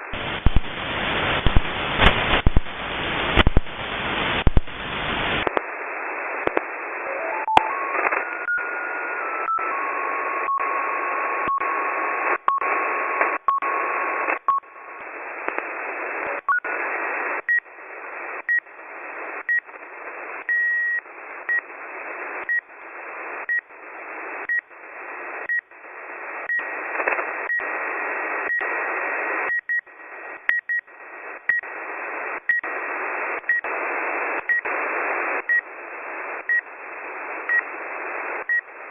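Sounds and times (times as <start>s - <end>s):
shortwave radio static: 0.0s - 38.9s.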